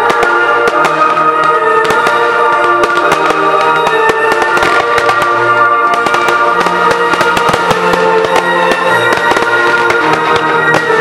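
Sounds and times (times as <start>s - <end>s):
film score music: 0.0s - 11.0s
fireworks bangs and crackles: 0.0s - 11.0s.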